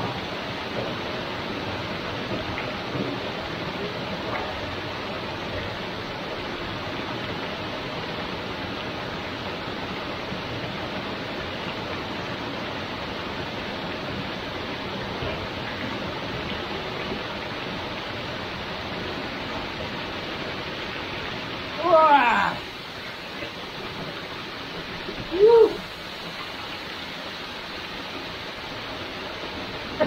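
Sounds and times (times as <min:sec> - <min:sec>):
waterfall pouring into pool: 0:00.0 - 0:30.0.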